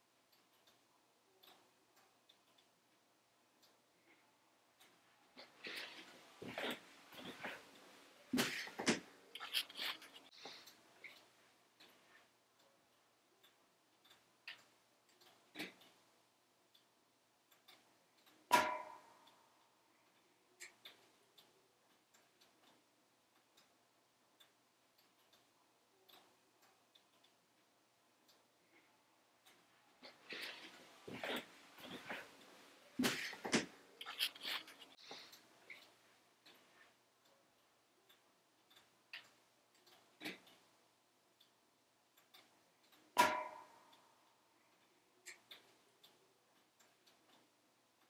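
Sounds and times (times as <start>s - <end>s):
logs crackling in wood stove: 0.0s - 48.0s.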